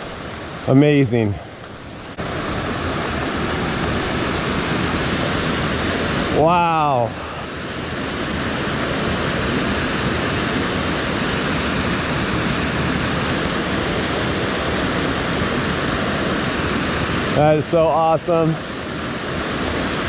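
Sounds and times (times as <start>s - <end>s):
water rushing down rocky wash: 0.0s - 20.0s.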